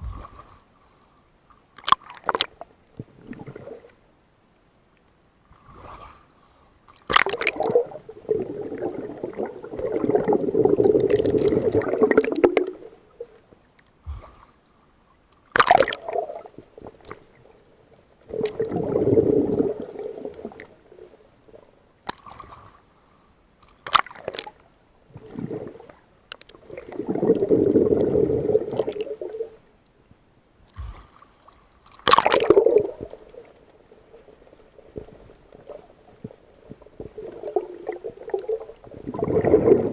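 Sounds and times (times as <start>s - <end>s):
water sloshing and gurgling: 0.0s - 4.1s, 5.4s - 14.7s, 15.4s - 29.9s, 30.6s - 39.9s.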